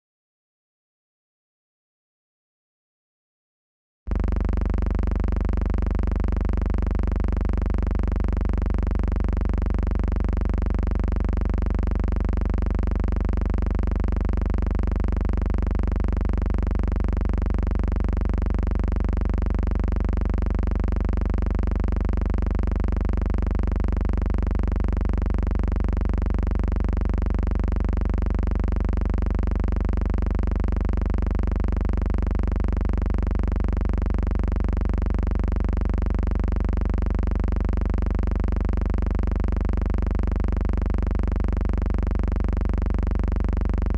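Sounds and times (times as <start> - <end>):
steady low hum: 4.1 - 43.9.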